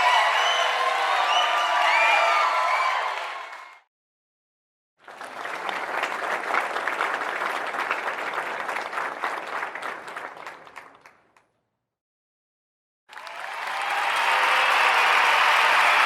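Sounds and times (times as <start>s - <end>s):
crowd applauding: 0.0s - 3.8s, 5.0s - 11.4s, 13.1s - 16.0s.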